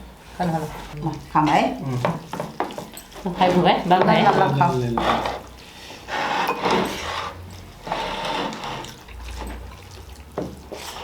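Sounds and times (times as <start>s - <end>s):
wet eating sounds: 0.0s - 11.0s.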